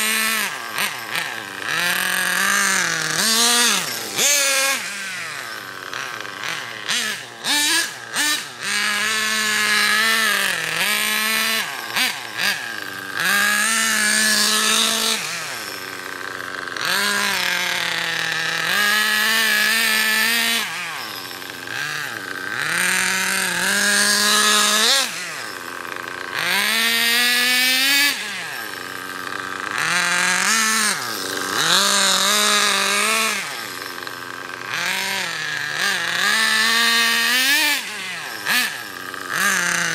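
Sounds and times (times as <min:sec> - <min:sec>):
nitro engine revving: 0:00.0 - 0:39.9
stuttering throttle blips: 0:00.0 - 0:39.9.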